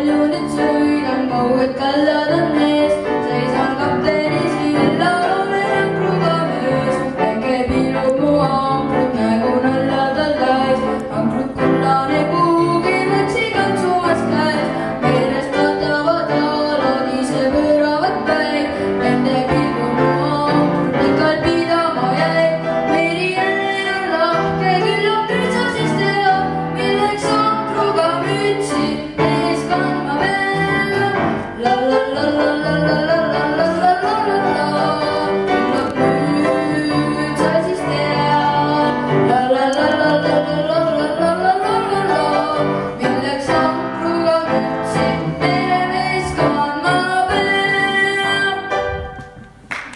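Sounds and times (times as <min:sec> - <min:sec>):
boy singing: 0:00.0 - 0:49.4
grand piano: 0:00.0 - 0:49.9.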